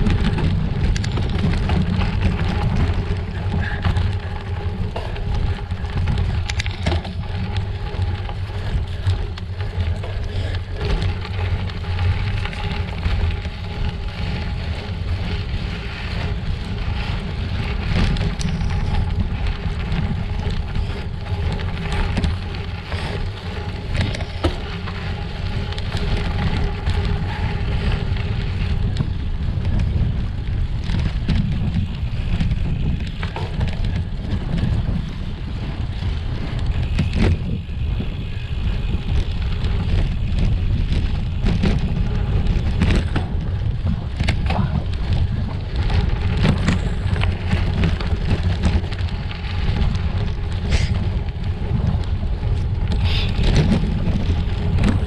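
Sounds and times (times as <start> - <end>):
bicycle clattering over rocks: 0.0 - 55.0
wind rumble on microphone: 0.0 - 55.0.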